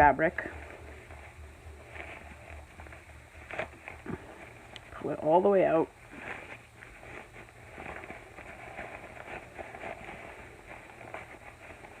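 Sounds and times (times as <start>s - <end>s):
low pulsing hum: 0.0s - 12.0s
fabric rustling: 0.3s - 5.0s, 5.8s - 12.0s.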